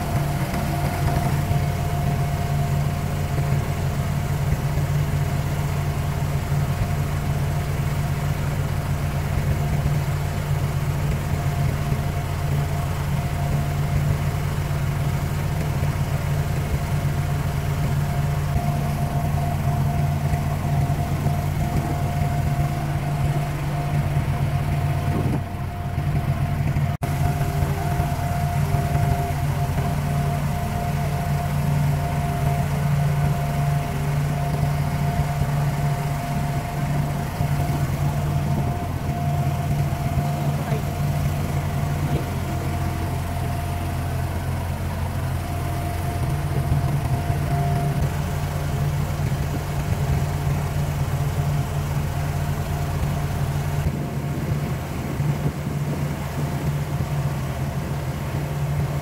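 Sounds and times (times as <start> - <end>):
boat diesel engine droning: 0.0 - 59.0
water hissing along hull: 0.0 - 59.0.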